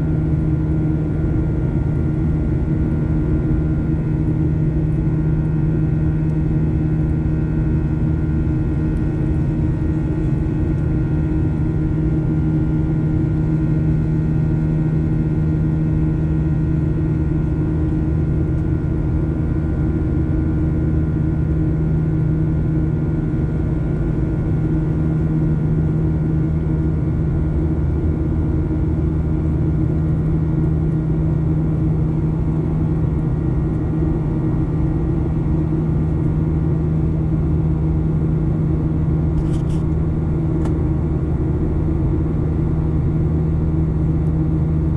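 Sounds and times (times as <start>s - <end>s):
jet engine drone in cabin: 0.0s - 44.9s.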